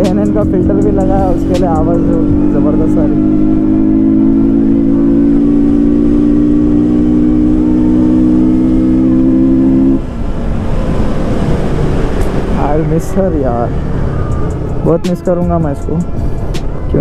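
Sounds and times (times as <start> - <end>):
motorcycle engine running: 0.0 - 10.0, 11.4 - 17.0.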